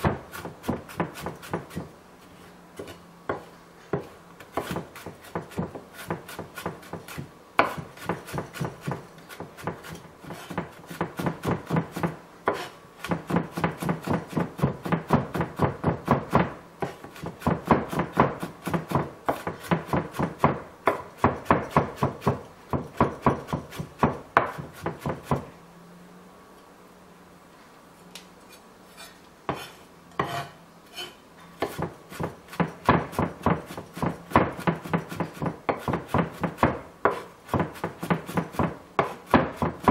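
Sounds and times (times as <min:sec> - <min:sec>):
knife chopping on wooden board: 0:00.0 - 0:01.9, 0:02.8 - 0:25.5, 0:29.5 - 0:39.9.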